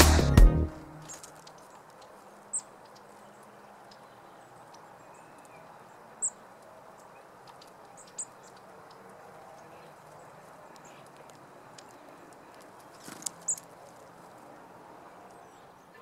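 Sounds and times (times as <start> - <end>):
faint pecking ticks: 1.1 - 14.5.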